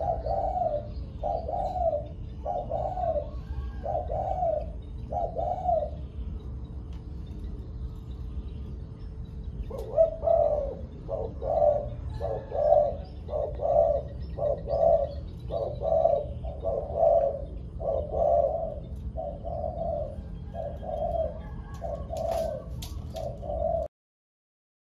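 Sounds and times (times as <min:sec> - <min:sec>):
dove cooing: 0:00.0 - 0:06.5, 0:09.3 - 0:23.9.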